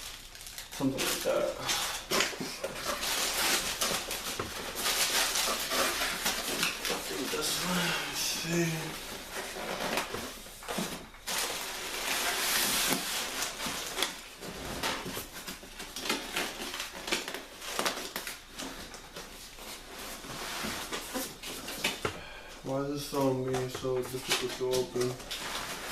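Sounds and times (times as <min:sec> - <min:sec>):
packaging rustling and crinkling: 0:00.0 - 0:25.9.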